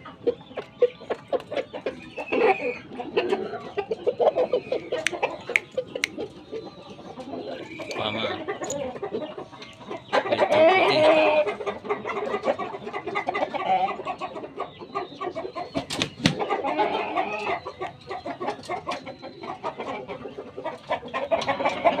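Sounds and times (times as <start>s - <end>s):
rooster clucking: 0.0s - 22.0s.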